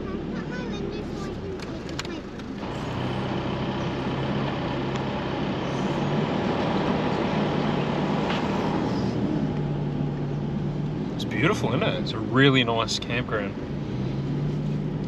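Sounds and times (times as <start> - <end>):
engine hum: 0.0 - 15.0
tyre and road noise: 0.0 - 15.0.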